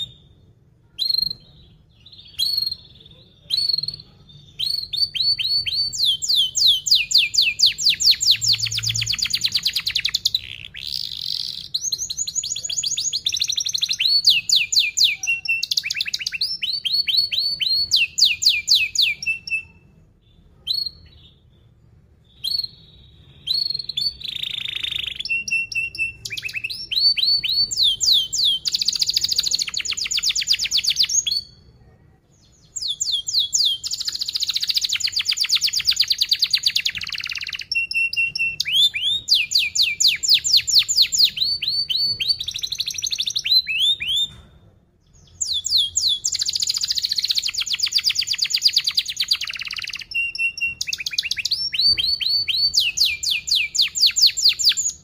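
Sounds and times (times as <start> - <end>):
canary singing trills: 0.0 - 44.4, 45.0 - 55.0.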